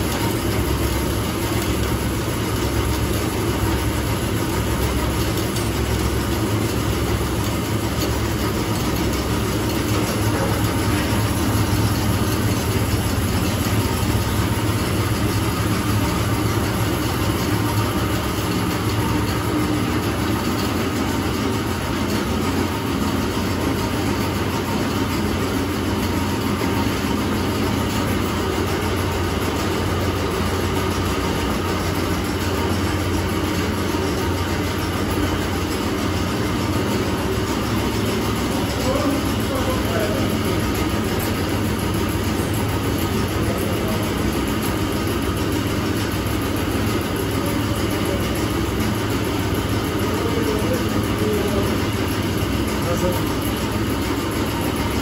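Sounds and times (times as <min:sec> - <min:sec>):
grain rushing through machinery: 0:00.0 - 0:55.0
low motor hum: 0:00.0 - 0:55.0.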